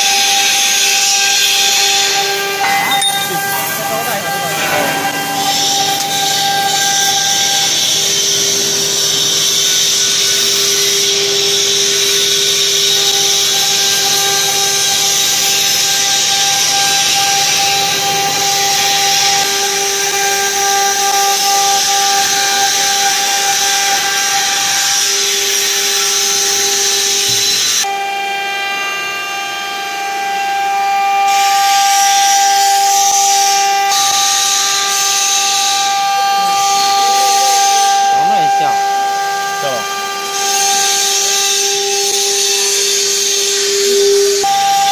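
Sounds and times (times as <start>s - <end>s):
engraving machine whine and hiss: 0.0s - 44.9s.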